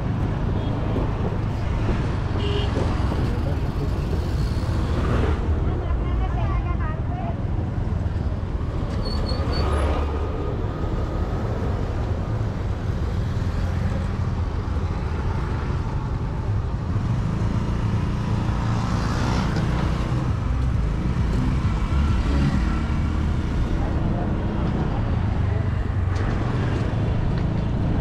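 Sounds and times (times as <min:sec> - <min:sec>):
passing vehicles: 0:00.0 - 0:28.0.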